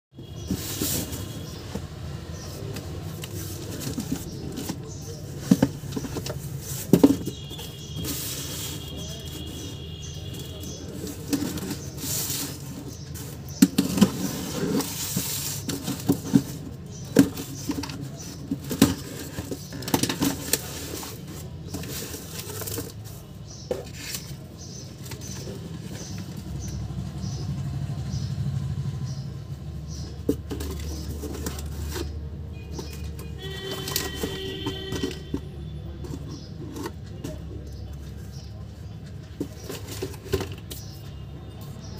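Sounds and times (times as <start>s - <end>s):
taps and scrapes on cardboard: 0.2s - 26.8s, 29.9s - 41.2s.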